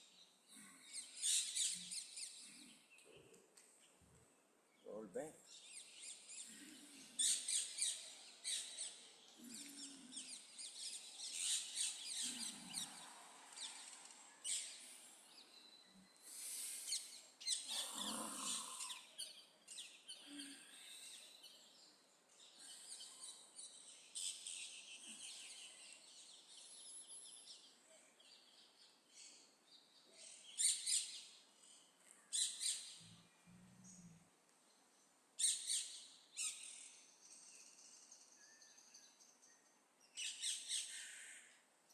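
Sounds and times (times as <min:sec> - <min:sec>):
birds chirping: 0:00.0 - 0:41.6.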